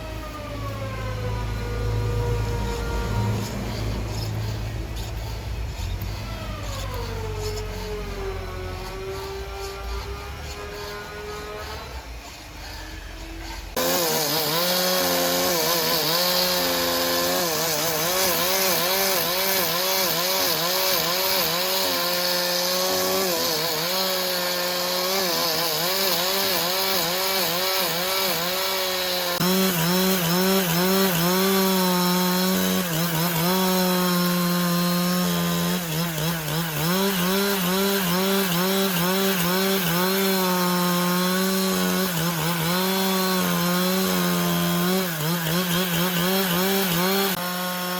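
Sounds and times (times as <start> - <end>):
chainsaw cutting timber: 0.0 - 47.9.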